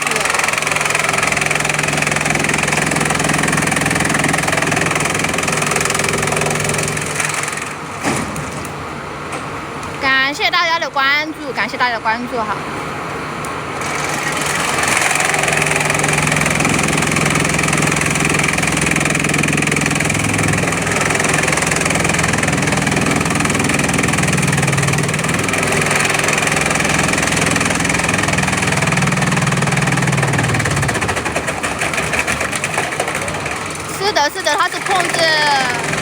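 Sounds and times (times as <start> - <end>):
chipping machine hissing: 0.0 - 9.0, 13.7 - 36.0.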